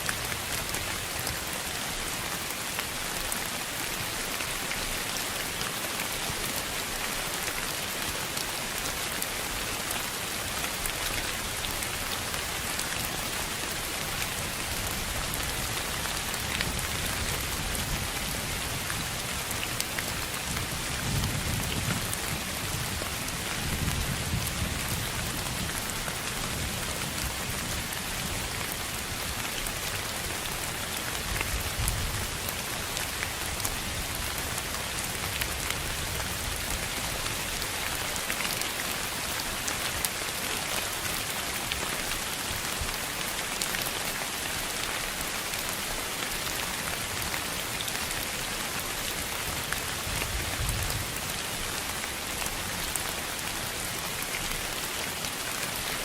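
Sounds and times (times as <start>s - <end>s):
rain-like hiss: 0.0s - 56.0s.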